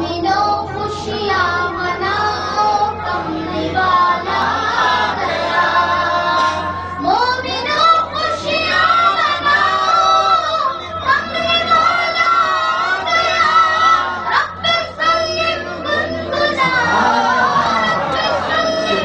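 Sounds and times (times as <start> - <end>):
high voice singing: 0.0 - 19.0
steady low hum: 0.0 - 19.0.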